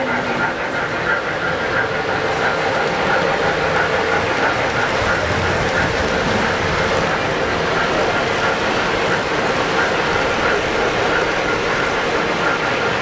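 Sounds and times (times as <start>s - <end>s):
model trains rolling on track: 0.0s - 13.0s.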